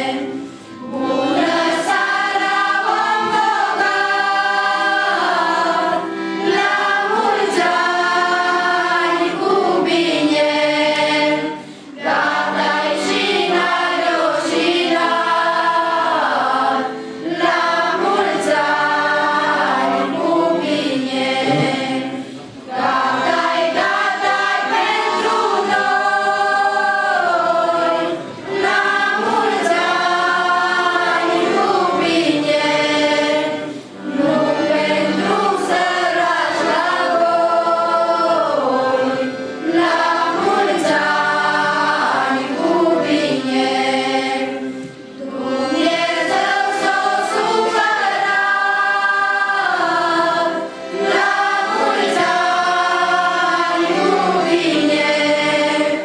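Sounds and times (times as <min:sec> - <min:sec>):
mixed group singing a carol: 0:00.0 - 0:56.0.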